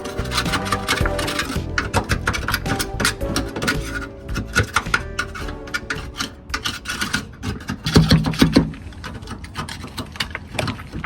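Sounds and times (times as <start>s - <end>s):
hand scraping steel floor pan: 0.0s - 11.0s.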